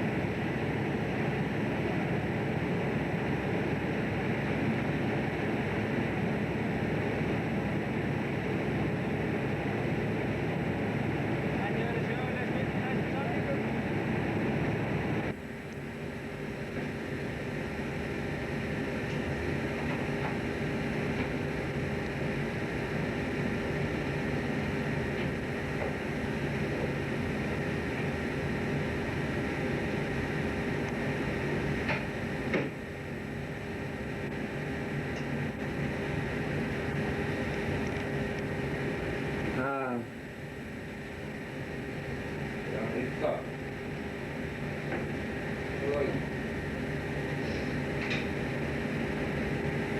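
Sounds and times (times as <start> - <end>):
boat engine droning hum: 0.0 - 49.9.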